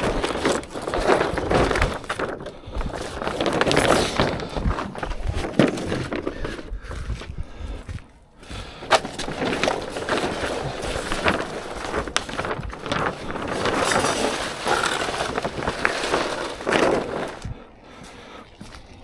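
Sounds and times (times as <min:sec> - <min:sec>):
plastic sheet crinkling: 0:00.0 - 0:06.8, 0:08.6 - 0:17.6.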